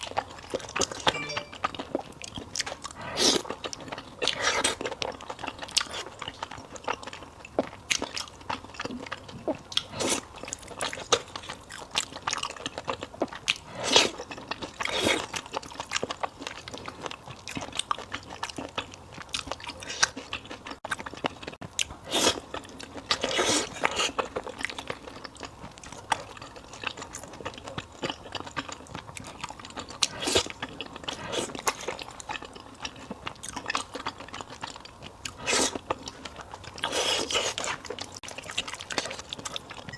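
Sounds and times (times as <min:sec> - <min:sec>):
person chewing and biting: 0:02.3 - 0:39.9.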